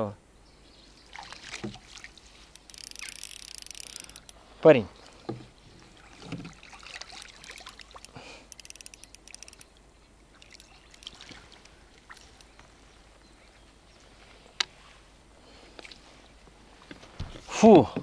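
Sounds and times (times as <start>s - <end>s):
water splashing and trickling: 0.9s - 18.0s.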